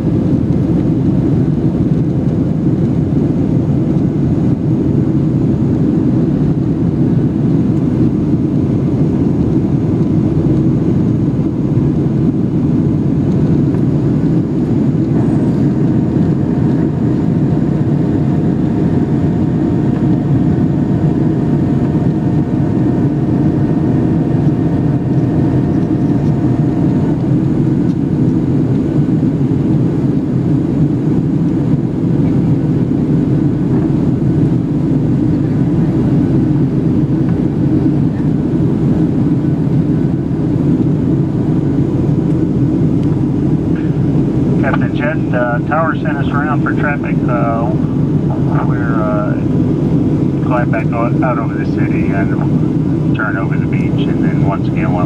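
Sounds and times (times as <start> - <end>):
jet engine cabin rumble: 0.0 - 55.0
rushing airflow: 0.0 - 55.0
steady humming tones: 0.0 - 55.0.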